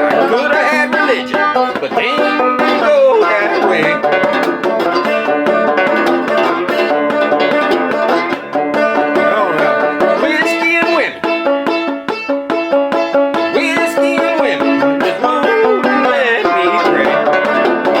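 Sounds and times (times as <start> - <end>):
banjo-guitar with slide: 0.0 - 18.0.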